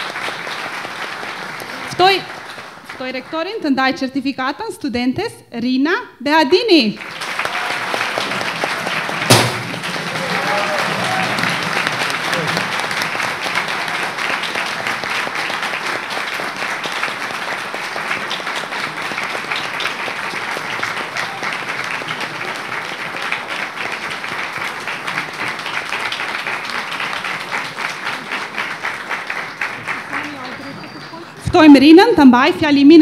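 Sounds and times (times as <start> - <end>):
audience applauding: 0.0 - 3.7, 7.0 - 32.5.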